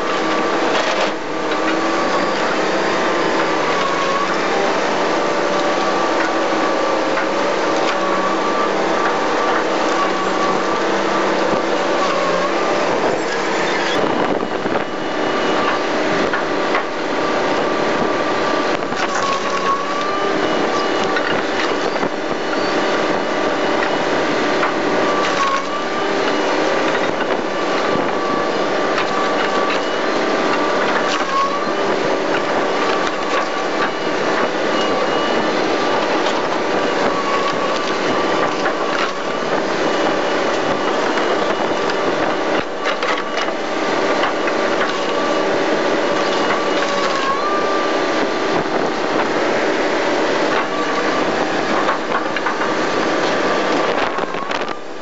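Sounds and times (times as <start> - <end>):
machine whine: 0.0 - 55.0
shredder crushing tyres: 0.0 - 55.0.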